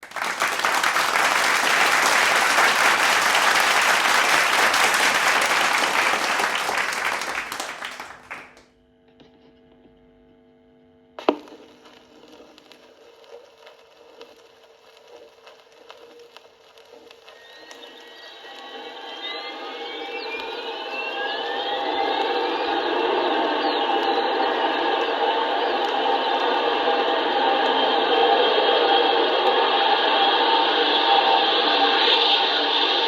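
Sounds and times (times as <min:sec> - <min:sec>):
faint crackle and hiss: 0:00.0 - 0:08.4, 0:11.2 - 0:29.6
faint hum: 0:00.0 - 0:32.5.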